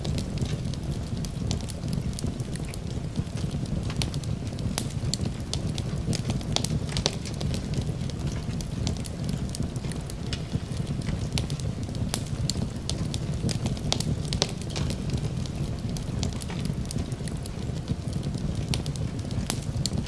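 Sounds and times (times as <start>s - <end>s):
rain hissing: 0.0s - 20.0s
wood fire crackling and popping: 0.0s - 20.0s.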